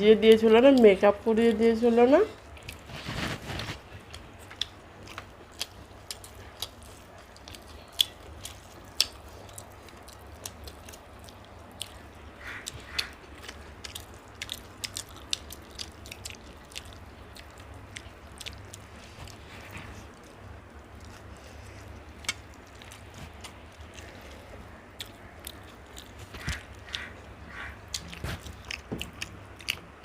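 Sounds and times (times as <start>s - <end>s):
steady low hum: 0.0s - 30.0s
chewing with wet smacks: 4.0s - 30.0s.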